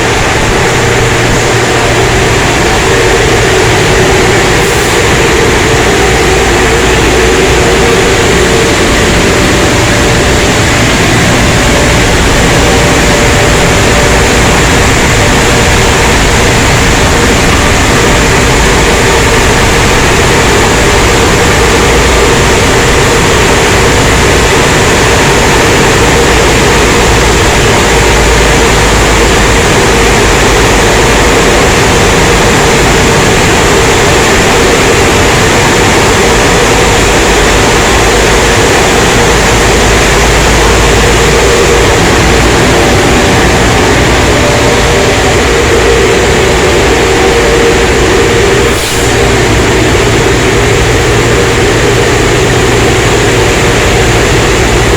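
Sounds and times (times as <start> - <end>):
car wash equipment rushing: 0.0 - 54.9
low hum: 0.0 - 54.9.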